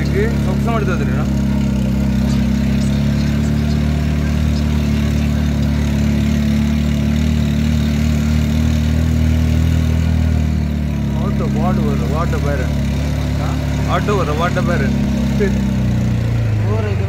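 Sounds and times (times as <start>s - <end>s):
auto-rickshaw engine running: 0.0s - 17.0s.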